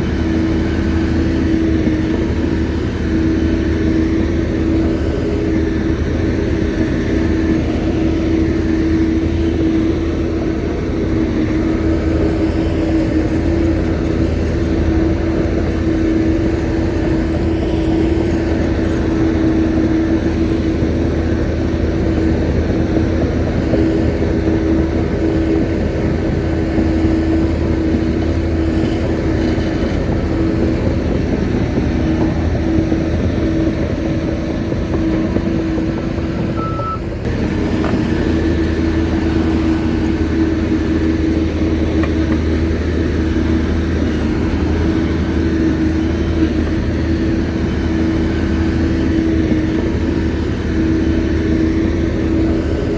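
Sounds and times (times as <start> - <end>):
bulldozer diesel engine droning: 0.0 - 52.9.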